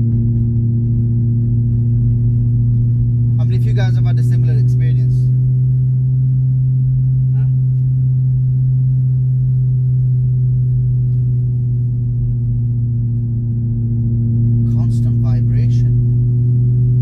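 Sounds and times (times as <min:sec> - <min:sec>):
car exhaust droning: 0:00.0 - 0:17.0.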